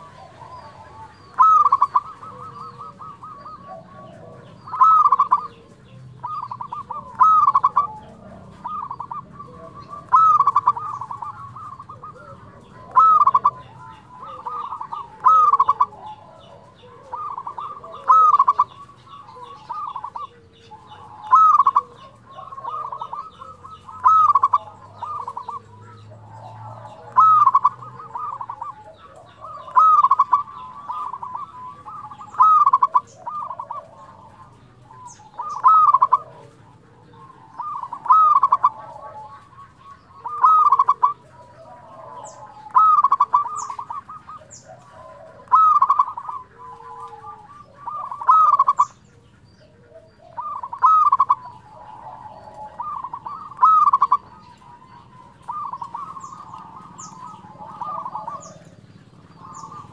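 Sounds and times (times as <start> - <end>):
dove cooing song: 0.0 - 59.9.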